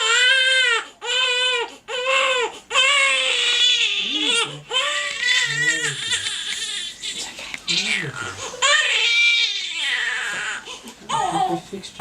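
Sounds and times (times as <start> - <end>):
baby crying hard: 0.0 - 6.9, 7.8 - 11.5.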